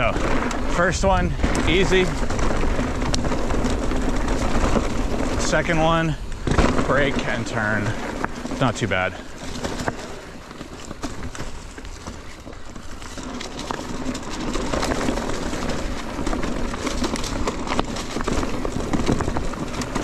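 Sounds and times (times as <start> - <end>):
bike rattling over bumps: 0.0 - 20.0
bike tyres rolling on dirt: 0.0 - 20.0.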